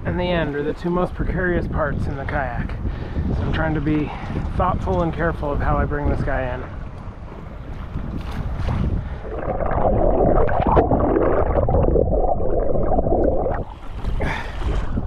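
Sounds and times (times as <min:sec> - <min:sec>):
water gurgling and sloshing: 0:00.0 - 0:15.0.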